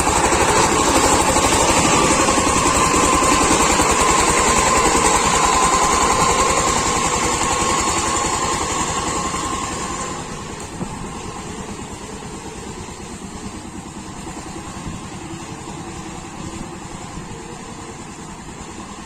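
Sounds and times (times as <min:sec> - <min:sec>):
power tiller engine running: 0:00.0 - 0:19.0.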